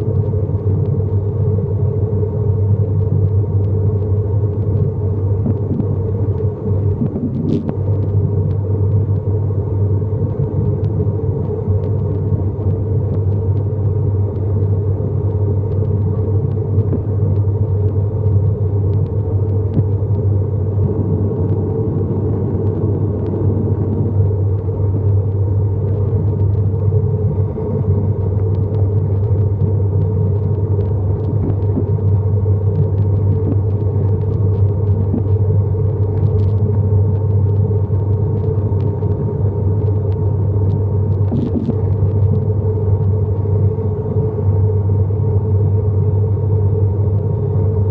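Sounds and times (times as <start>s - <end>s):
turboprop engines droning: 0.0s - 47.9s.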